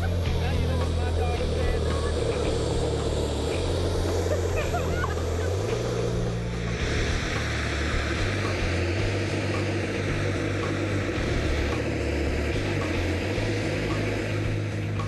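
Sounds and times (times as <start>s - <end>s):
model jet turbine rushing: 0.0s - 15.0s.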